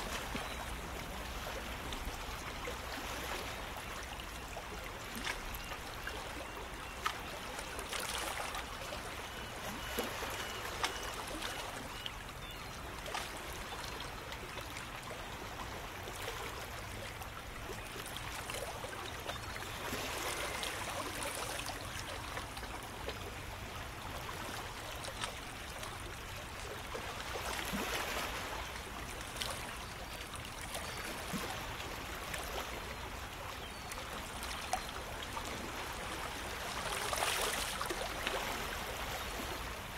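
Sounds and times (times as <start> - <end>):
small water splashes: 0.0 - 39.9
water lapping over rocks: 0.0 - 39.9.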